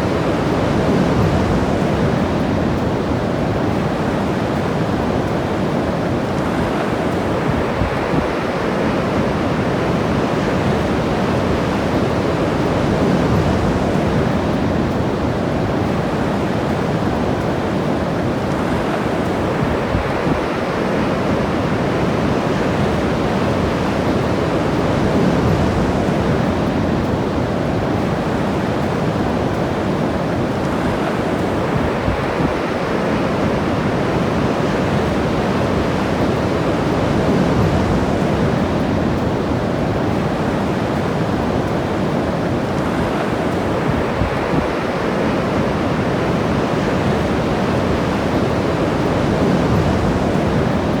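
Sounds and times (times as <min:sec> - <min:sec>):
ocean surf breaking: 0:00.0 - 0:51.0
wind on microphone: 0:00.0 - 0:51.0.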